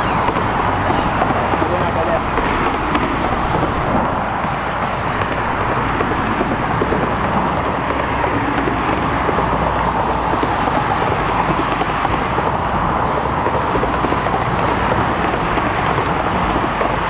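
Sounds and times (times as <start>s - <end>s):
road traffic on a bridge: 0.0s - 17.0s
tyres hissing: 0.0s - 17.0s.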